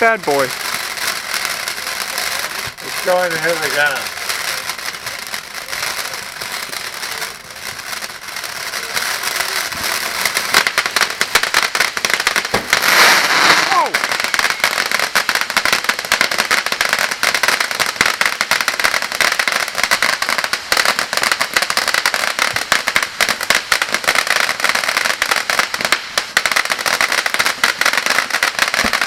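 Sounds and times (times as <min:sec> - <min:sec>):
firework fountain crackling: 0:00.0 - 0:29.0.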